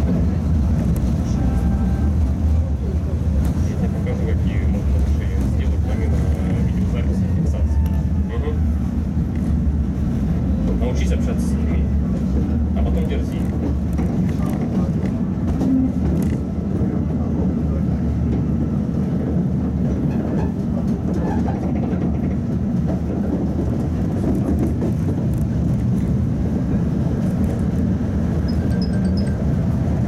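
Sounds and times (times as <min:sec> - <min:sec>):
tram rumbling on rails: 0:00.0 - 0:30.0.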